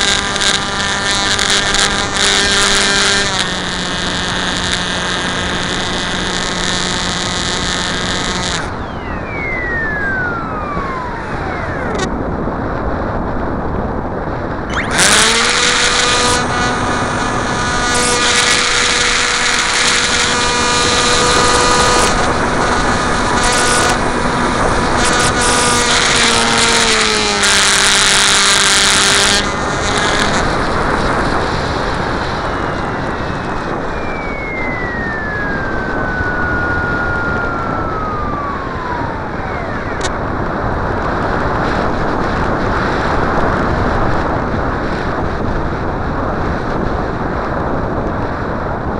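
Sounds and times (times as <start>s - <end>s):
rc plane motor buzzing: 0.0s - 12.1s, 14.6s - 45.5s
slow falling whine: 0.0s - 48.9s
wind on microphone: 0.0s - 48.9s.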